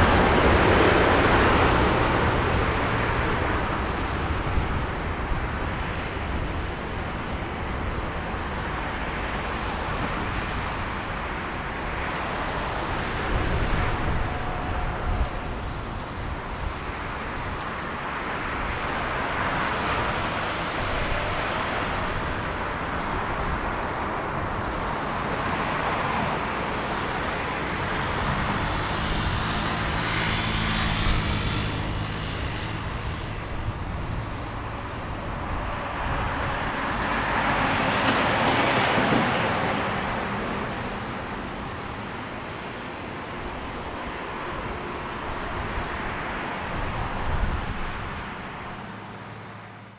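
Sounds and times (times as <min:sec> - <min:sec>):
wind on microphone: 0:00.0 - 0:42.1, 0:43.3 - 0:48.8
distant jet engine roar: 0:00.0 - 0:49.9.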